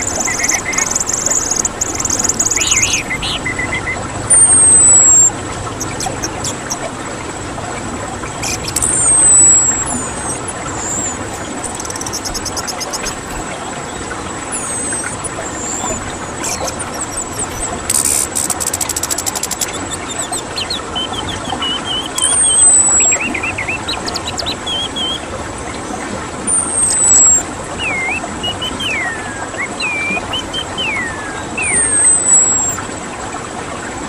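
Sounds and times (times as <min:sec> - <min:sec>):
small birds singing: 0:00.0 - 0:32.9.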